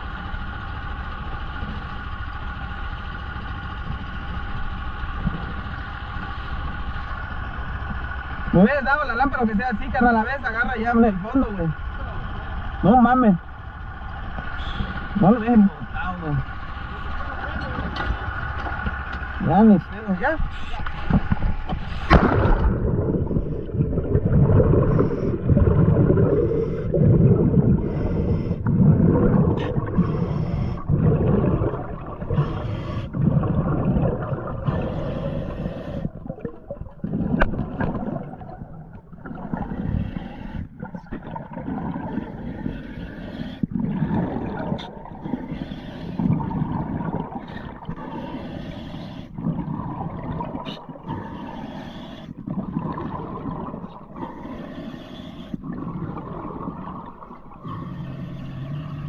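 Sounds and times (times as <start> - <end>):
low underwater rumble: 0.0 - 59.0
underwater air bubbles gurgling: 0.0 - 59.0.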